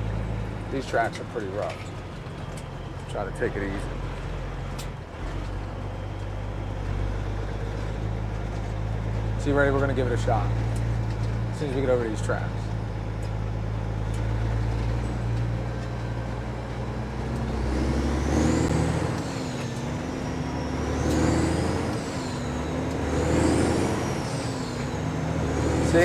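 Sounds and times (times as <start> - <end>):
diesel truck engine revving: 0.0 - 26.0.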